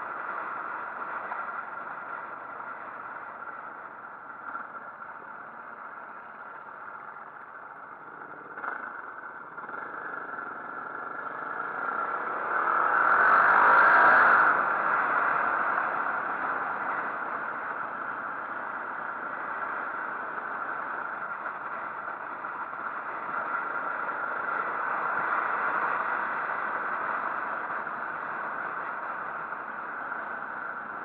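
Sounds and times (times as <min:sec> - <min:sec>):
motorcycle engine: 0:00.0 - 0:31.0.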